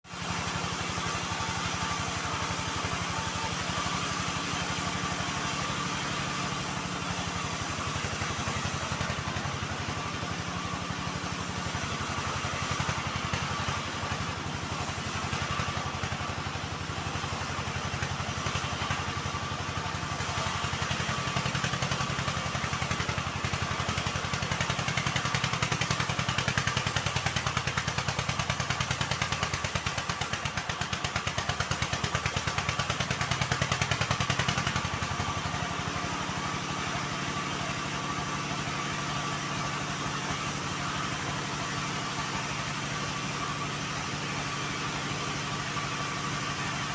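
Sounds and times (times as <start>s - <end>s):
engine running a sawmill: 0.0s - 46.9s.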